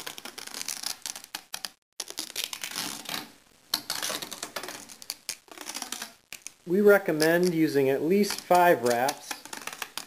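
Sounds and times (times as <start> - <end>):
adhesive tape peeling off roll: 0.0 - 7.6, 8.2 - 10.0.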